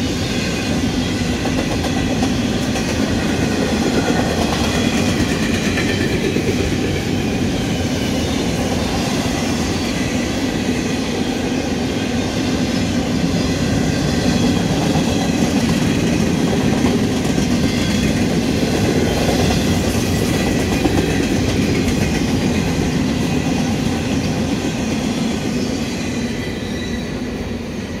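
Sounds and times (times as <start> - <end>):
freight train wheels clattering: 0.0 - 27.6.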